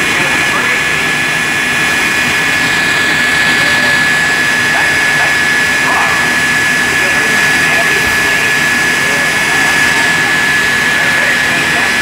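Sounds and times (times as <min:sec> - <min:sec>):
jet engine turbine whine: 0:00.0 - 0:12.0.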